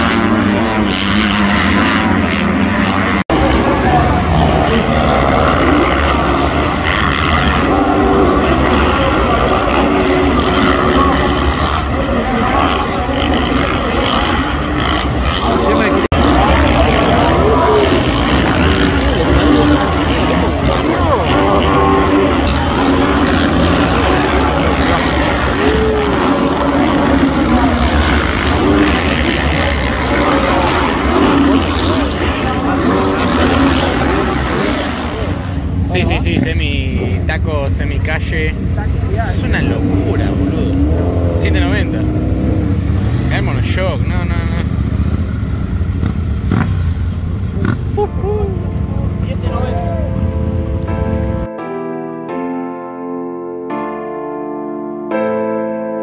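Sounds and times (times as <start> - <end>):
motocross bike engines revving: 0.0 - 51.5.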